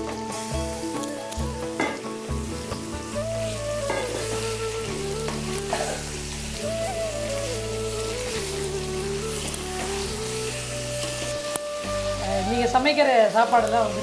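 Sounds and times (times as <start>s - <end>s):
background music: 0.0s - 14.0s
food sizzling in hot oil: 0.0s - 14.0s.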